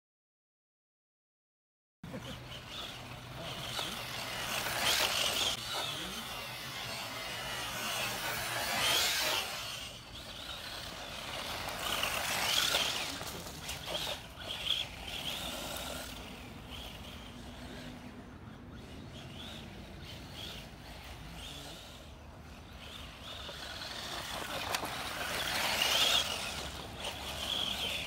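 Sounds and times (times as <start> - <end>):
electric motor and gear whine: 2.1 - 28.0.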